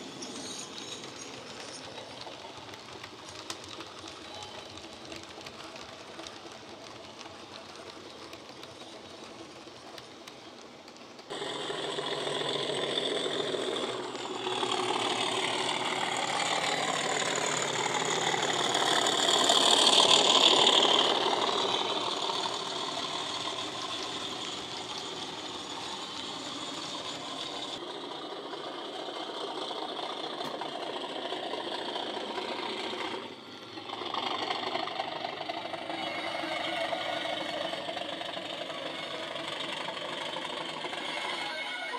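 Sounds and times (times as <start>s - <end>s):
model locomotive diesel engine sound: 0.0s - 41.9s.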